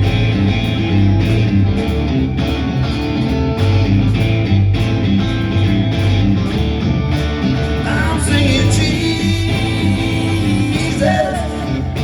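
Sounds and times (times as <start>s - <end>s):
band playing guitars bass and beat: 0.0s - 12.0s.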